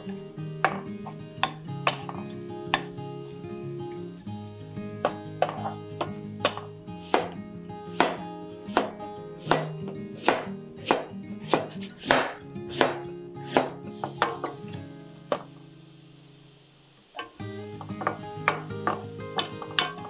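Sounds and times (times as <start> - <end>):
pan sizzling: 0.0 - 20.0.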